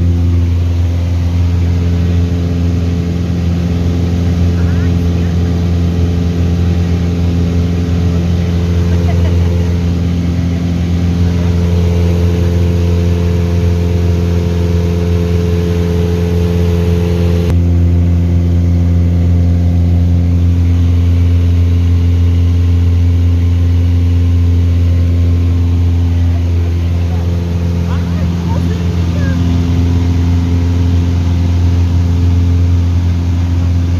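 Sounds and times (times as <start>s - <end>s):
propeller aircraft engine droning: 0.0s - 33.9s.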